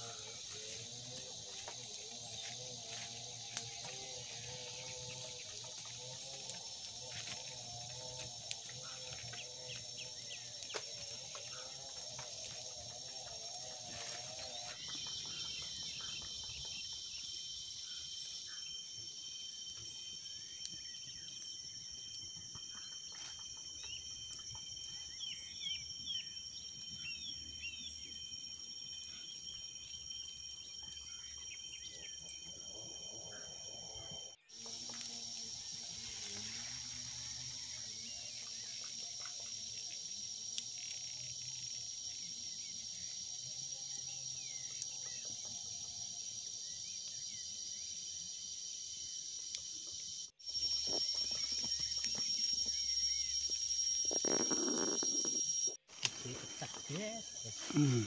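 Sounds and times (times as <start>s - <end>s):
insect chorus droning: 0.0s - 58.0s
short insect chirps: 0.0s - 58.0s.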